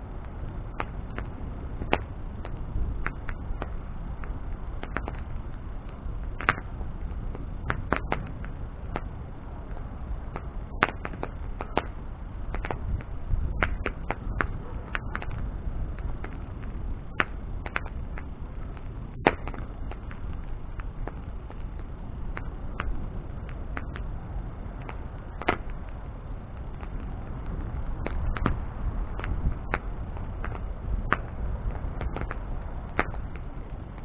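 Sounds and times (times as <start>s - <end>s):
burning wood crackling and popping: 0.0s - 34.0s
low rush of flame: 0.0s - 34.0s.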